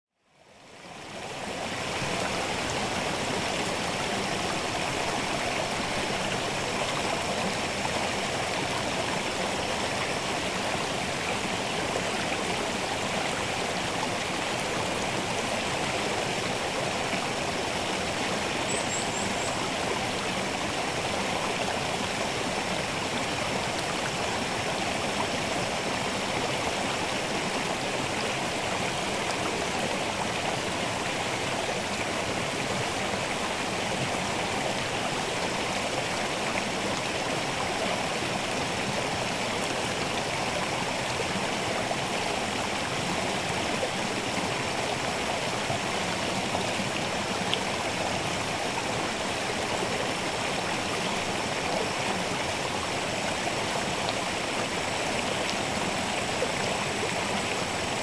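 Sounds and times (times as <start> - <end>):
waterfall and stream rushing: 0.3 - 58.0.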